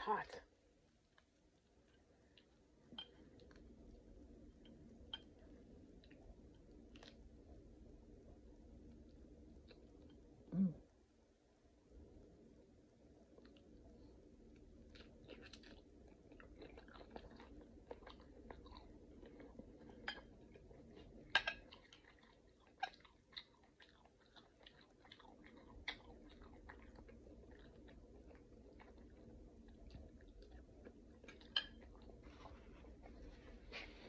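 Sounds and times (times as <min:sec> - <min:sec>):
faint steady hum: 0:00.0 - 0:34.0
person chewing: 0:01.0 - 0:07.6, 0:13.2 - 0:34.0.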